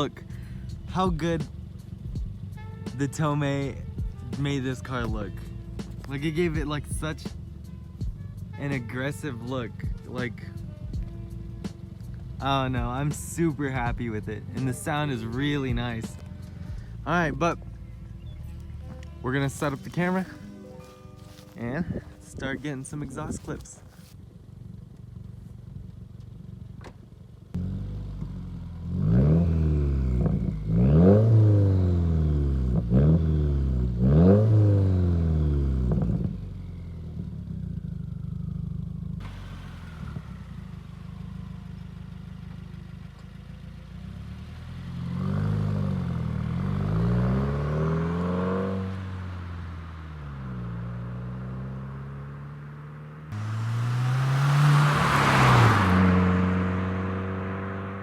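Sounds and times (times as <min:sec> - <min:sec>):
car engine throttle blips: 0:00.0 - 0:58.0.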